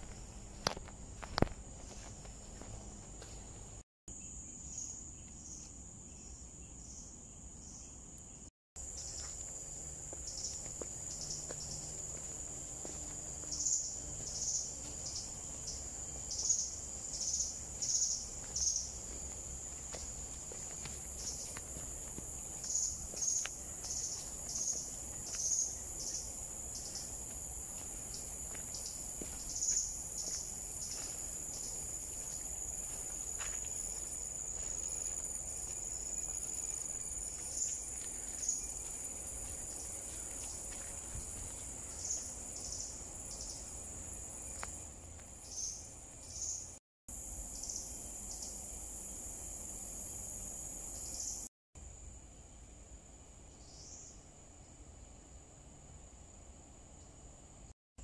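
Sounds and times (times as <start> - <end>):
insects shrilling drone: 0.0 - 56.2.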